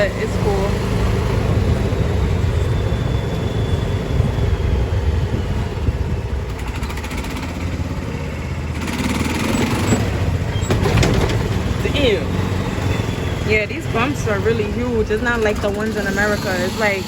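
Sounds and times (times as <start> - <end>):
golf cart driving: 0.0 - 17.0.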